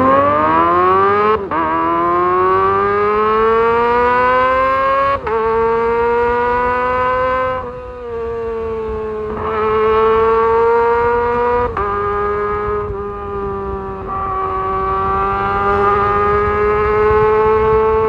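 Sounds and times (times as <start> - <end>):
motorcycle engine revving high: 0.0 - 18.0.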